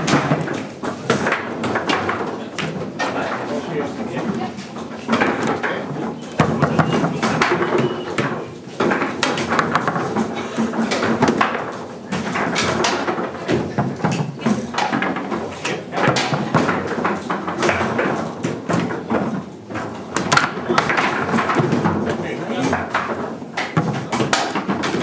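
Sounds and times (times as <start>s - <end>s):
rods clacking and sliding: 0.0s - 25.0s.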